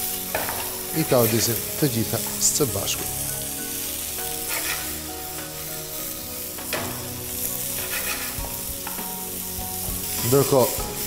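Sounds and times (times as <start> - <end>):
vegetables sizzling in a frying pan: 0.0 - 11.0.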